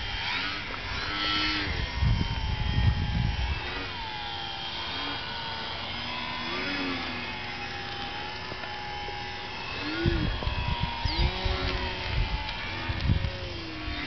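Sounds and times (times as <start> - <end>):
model airplane motors whining: 0.0 - 14.0.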